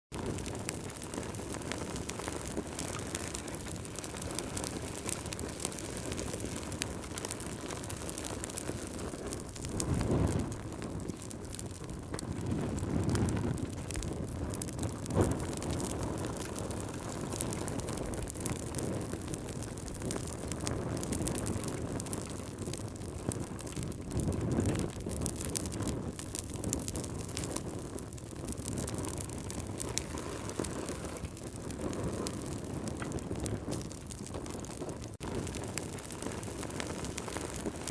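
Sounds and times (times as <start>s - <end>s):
campfire flames rumbling: 0.1s - 37.9s
fire crackling and popping: 0.1s - 37.9s.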